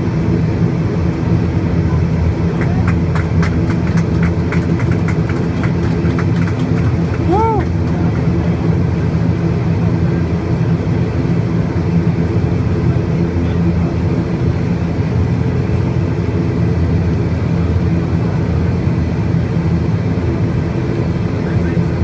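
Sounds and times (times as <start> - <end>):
loud engine rumble: 0.0 - 22.0.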